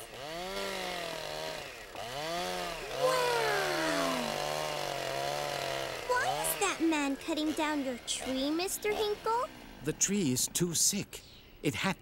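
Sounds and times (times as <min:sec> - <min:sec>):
chainsaw cutting tree trunk: 0:00.0 - 0:09.8.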